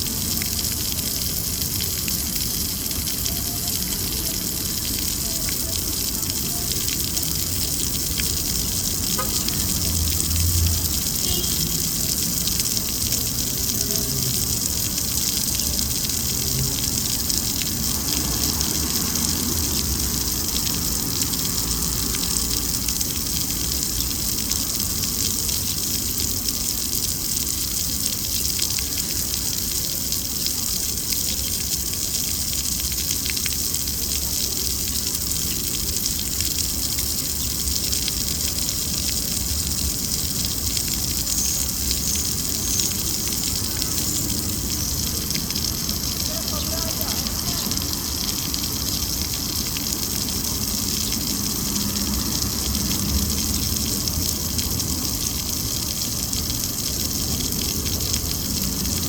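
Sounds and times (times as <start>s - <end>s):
passing traffic rumble: 0.0s - 27.6s, 35.0s - 59.0s.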